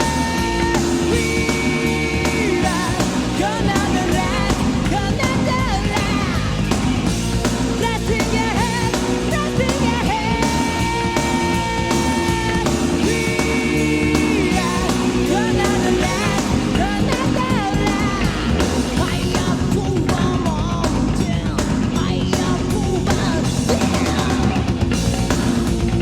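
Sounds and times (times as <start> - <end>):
distorted guitars: 0.0 - 26.0
drums: 0.0 - 26.0
lead guitar line: 0.0 - 26.0.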